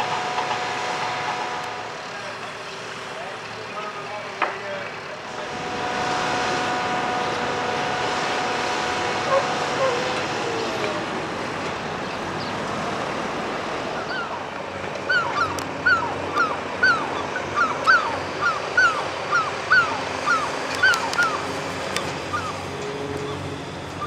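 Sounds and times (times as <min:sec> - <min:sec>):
steady rushing background noise: 0:00.0 - 0:24.0.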